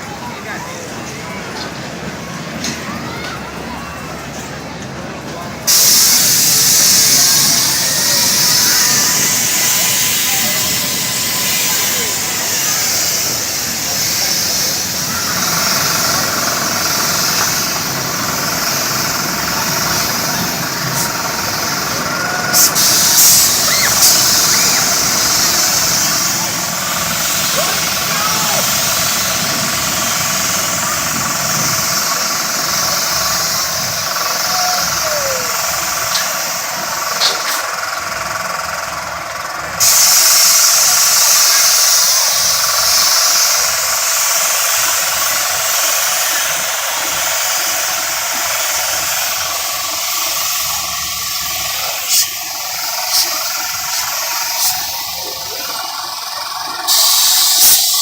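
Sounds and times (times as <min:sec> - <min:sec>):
bursts of noise: 0:05.6 - 0:58.0
rushing hiss: 0:05.6 - 0:58.0
helicopter engine and rotor: 0:06.5 - 0:58.0.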